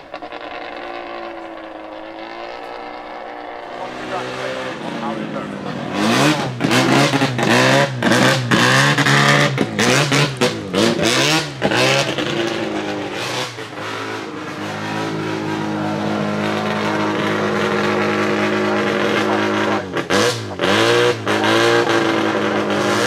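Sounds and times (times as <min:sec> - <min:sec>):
rotary engine revving and idling: 0:00.0 - 0:23.0.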